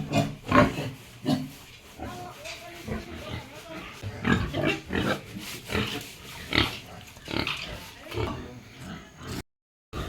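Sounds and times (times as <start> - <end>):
pigs grunting: 0.0 - 9.4.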